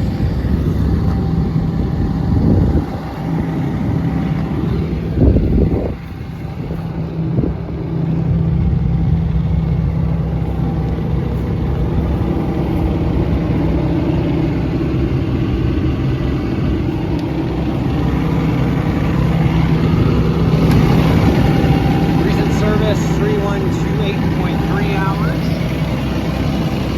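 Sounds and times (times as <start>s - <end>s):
excavator diesel engine droning: 0.0s - 26.9s.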